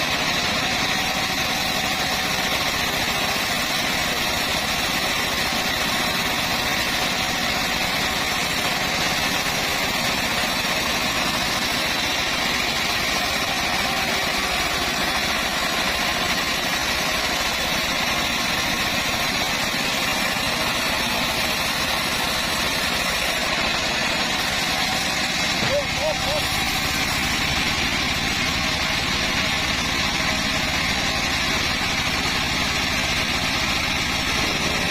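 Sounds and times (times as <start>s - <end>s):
band sawmill running: 0.0s - 34.9s.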